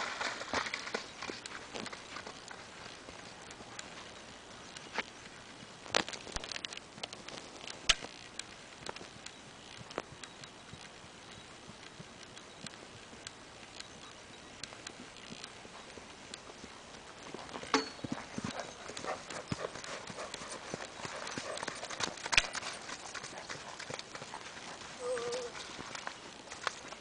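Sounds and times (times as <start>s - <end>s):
horse hoofbeats on dirt: 0.0s - 27.0s.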